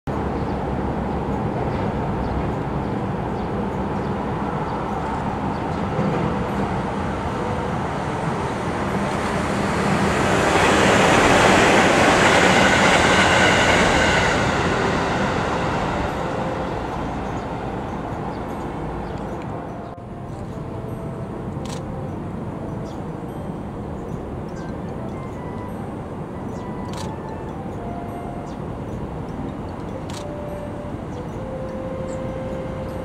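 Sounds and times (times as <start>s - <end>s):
train rumbling past: 0.1s - 33.0s
high ringing tones: 3.3s - 33.0s.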